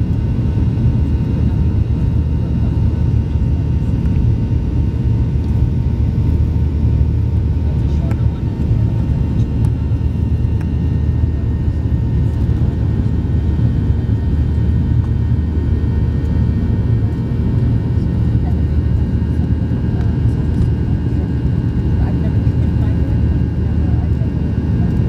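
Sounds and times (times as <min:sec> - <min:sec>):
airliner engine and airflow rumble: 0:00.0 - 0:25.0.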